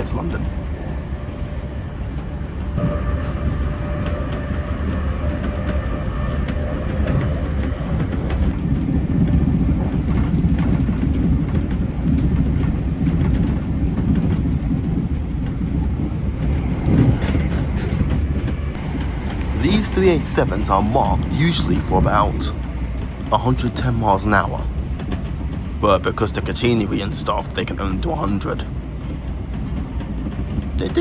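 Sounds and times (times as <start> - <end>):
track clicks: 0.0 - 31.0
train interior rumble: 0.0 - 31.0.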